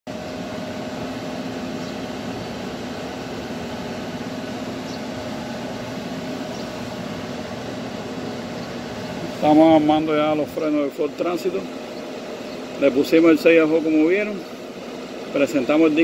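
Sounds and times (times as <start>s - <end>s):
machine humming: 0.1s - 16.0s.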